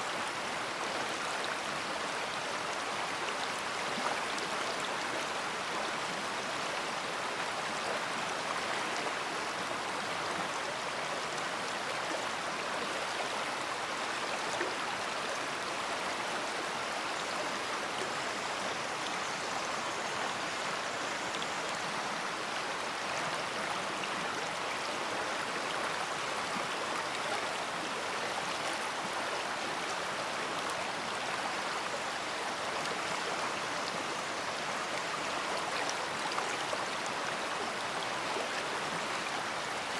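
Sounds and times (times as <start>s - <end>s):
river rushing and babbling: 0.0s - 39.9s.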